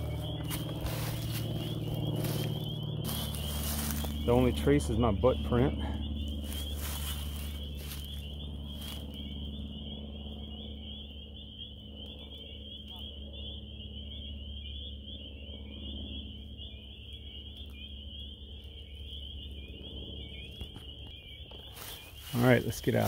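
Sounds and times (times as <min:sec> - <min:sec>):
low rumble: 0:00.0 - 0:22.4
frog chorus: 0:00.0 - 0:23.0.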